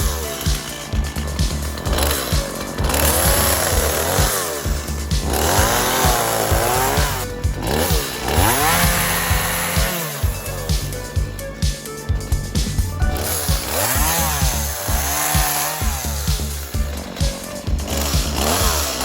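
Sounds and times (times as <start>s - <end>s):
background music with low beat: 0.0s - 19.0s
two-stroke chainsaw revving: 0.0s - 19.0s.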